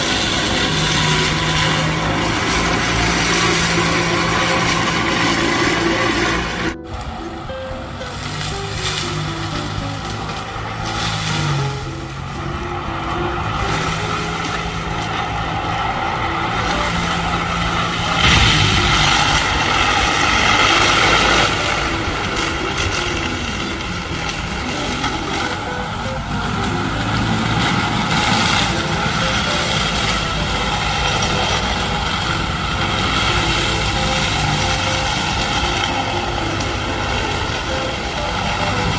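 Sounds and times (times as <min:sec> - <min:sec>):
brush-cutter working: 0:00.0 - 0:38.9
excavator engine running: 0:00.0 - 0:38.9.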